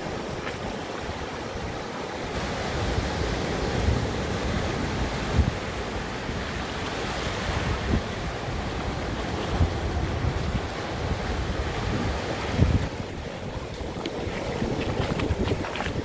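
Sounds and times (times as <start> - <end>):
surf breaking and washing: 0.0 - 16.0
wind gusting on microphone: 0.0 - 16.0.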